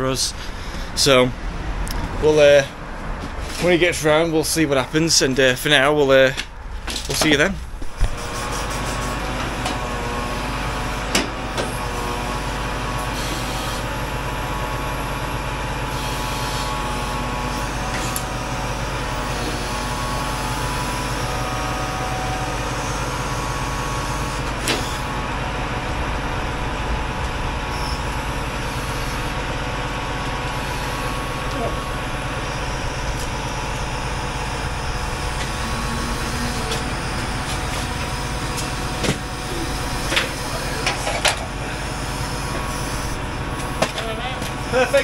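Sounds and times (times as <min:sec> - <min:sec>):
lorry engine running: 0:00.0 - 0:45.0.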